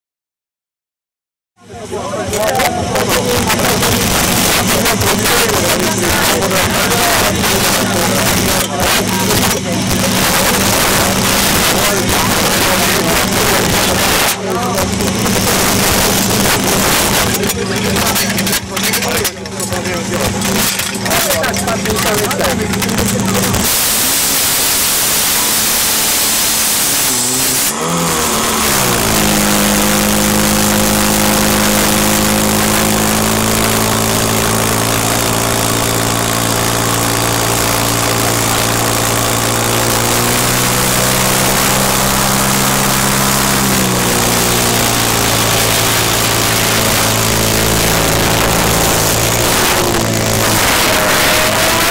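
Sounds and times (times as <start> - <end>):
pump engine revving: 1.8 - 51.9.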